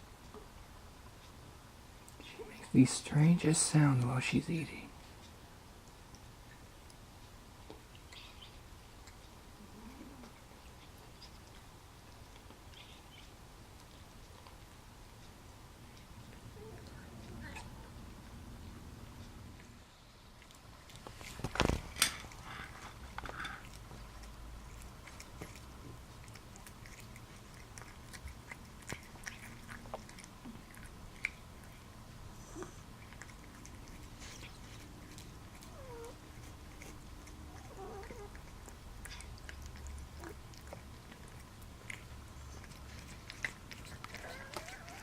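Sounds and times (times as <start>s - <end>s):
cat chewing: 0.1s - 45.0s.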